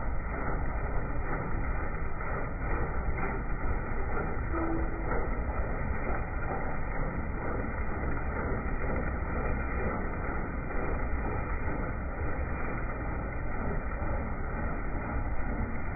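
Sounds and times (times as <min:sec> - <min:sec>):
combine harvester running: 0:00.0 - 0:15.9.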